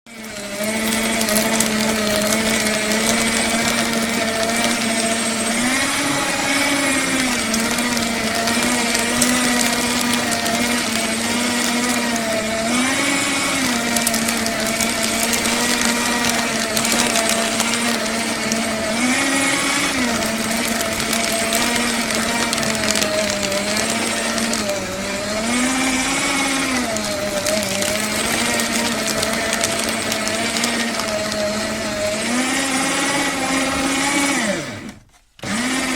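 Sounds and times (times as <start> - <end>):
paper shredder running: 0.0 - 35.9.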